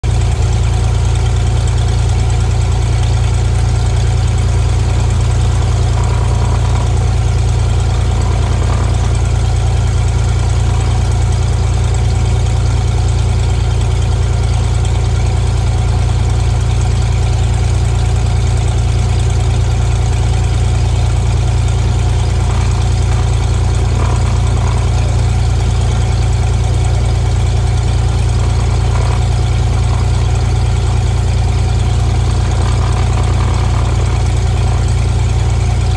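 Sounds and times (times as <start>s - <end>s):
light aircraft engine drone: 0.0s - 35.9s.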